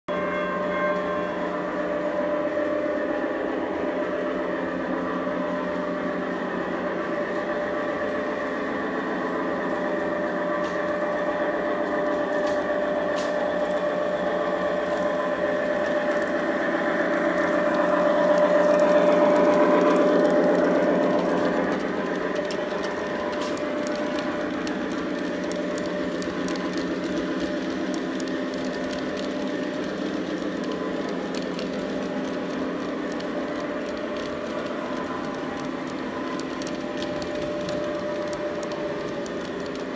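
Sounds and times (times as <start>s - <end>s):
model train wheels clicking: 5.7s - 39.9s.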